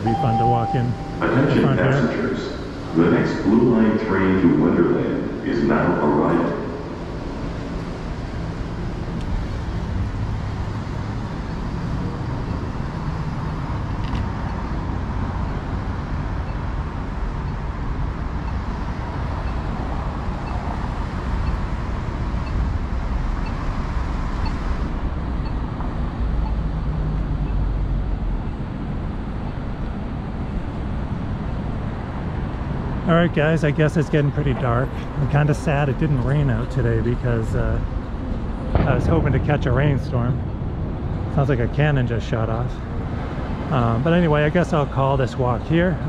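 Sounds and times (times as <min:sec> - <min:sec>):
background hum: 0:00.0 - 0:46.0
traffic rumble: 0:00.0 - 0:46.0.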